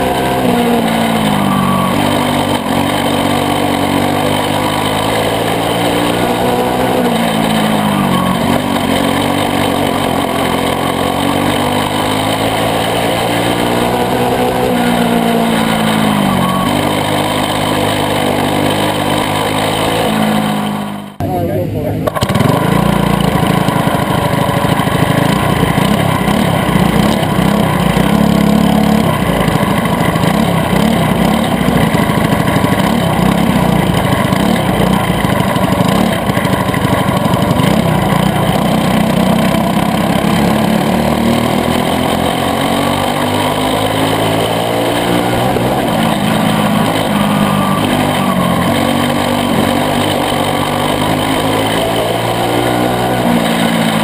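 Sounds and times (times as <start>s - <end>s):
kart engine rumbling: 0.0s - 54.0s.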